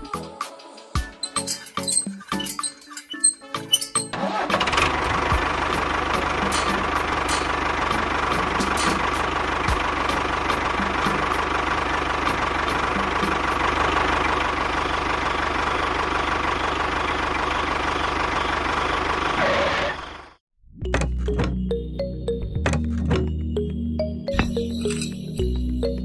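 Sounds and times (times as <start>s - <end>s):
engine running with high whine: 1.0s - 20.4s, 21.1s - 26.0s.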